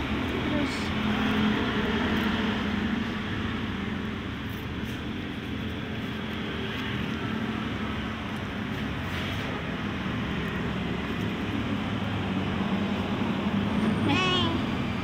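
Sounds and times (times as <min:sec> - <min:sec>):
road traffic rumble and hiss: 0:00.0 - 0:15.0.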